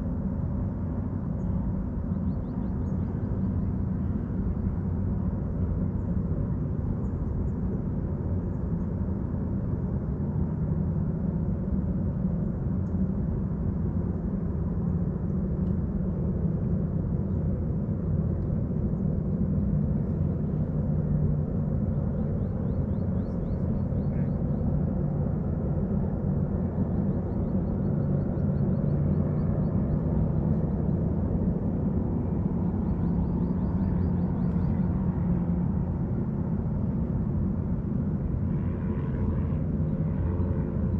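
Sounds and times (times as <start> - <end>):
low engine drone: 0.0 - 40.9.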